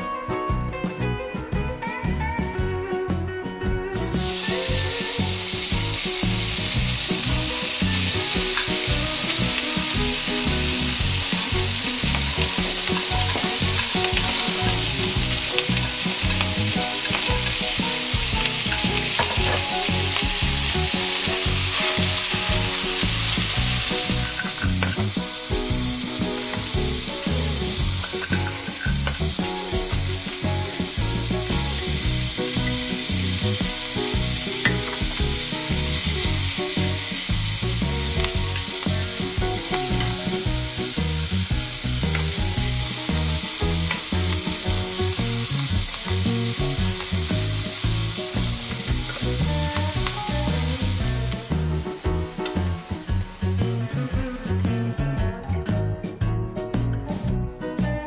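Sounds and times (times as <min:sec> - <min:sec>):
bacon and garlic sizzling: 0:04.0 - 0:55.2.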